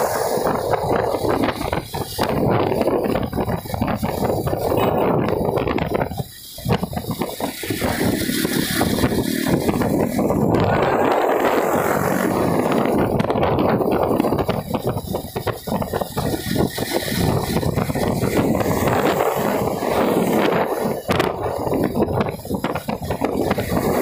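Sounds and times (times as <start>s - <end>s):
motorcycle engines: 0.0s - 24.0s
road rush: 0.0s - 24.0s
wind buffeting microphone: 0.0s - 24.0s.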